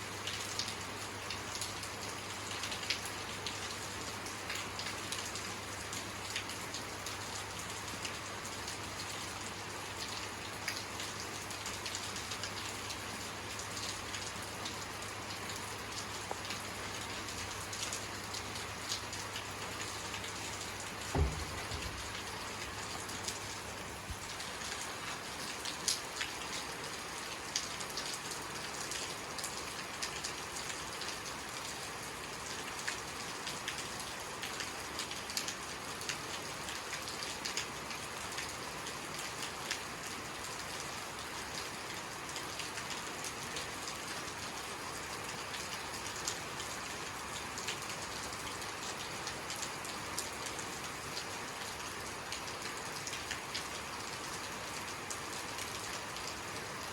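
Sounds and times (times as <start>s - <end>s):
raindrops ticking on surface: 0.0s - 56.9s
steady rain hiss: 0.0s - 56.9s.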